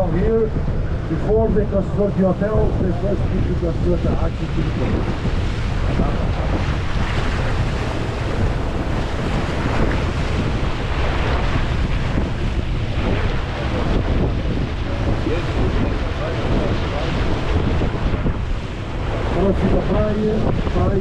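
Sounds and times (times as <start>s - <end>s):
rush of sea water: 0.0s - 21.0s
wind blowing on microphone: 0.0s - 21.0s.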